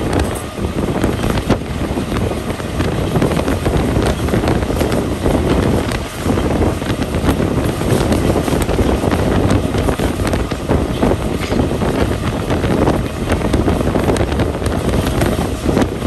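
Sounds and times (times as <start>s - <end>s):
train wheels rumbling and clattering: 0.0s - 16.0s
wind rushing over microphone: 0.0s - 16.0s.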